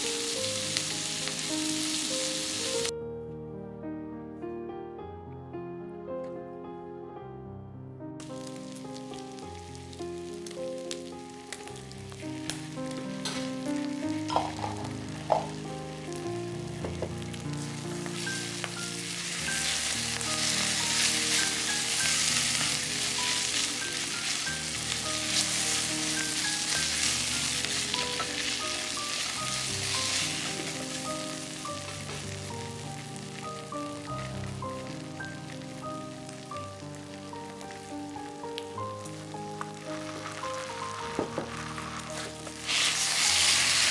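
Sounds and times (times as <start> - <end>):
food sizzling in a frying pan: 0.0 - 2.9, 8.2 - 43.9
soft background music: 0.0 - 43.9.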